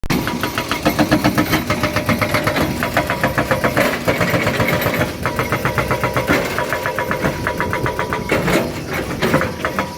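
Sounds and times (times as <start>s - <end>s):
excavator diesel engine running: 0.0s - 9.9s.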